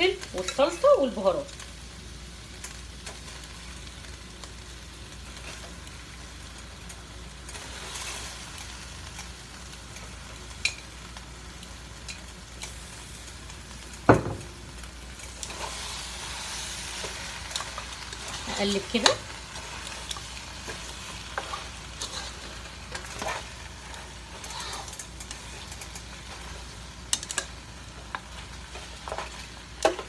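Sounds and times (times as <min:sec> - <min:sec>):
food sizzling in a pot: 0:00.0 - 0:30.0.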